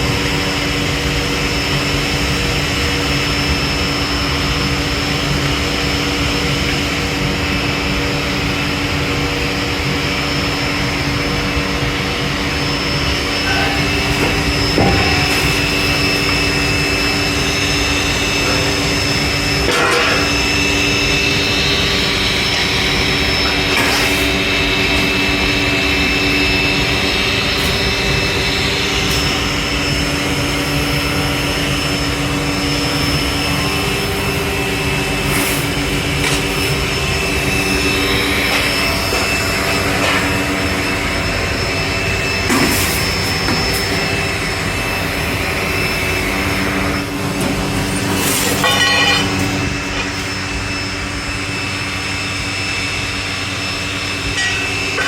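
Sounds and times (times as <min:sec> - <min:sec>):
industrial machinery humming: 0:00.0 - 0:55.0.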